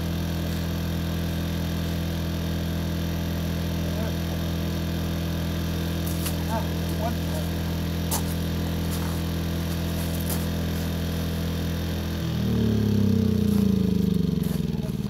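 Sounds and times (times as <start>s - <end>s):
portable generator engine running: 0.0s - 15.0s.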